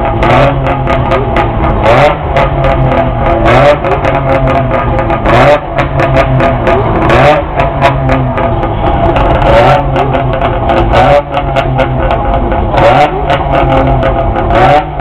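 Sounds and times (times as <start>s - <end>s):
engine crackles and pops: 0.0s - 15.0s
sports car engines revving: 0.0s - 15.0s.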